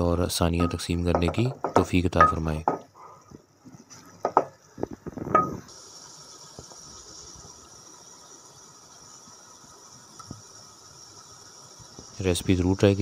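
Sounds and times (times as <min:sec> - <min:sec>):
soft high hiss: 0:00.0 - 0:13.0.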